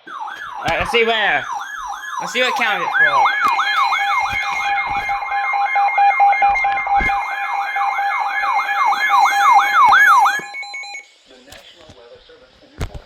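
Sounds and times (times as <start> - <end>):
electronic alert siren whooping: 0.0 - 11.0
steady electronic tone: 0.0 - 11.1.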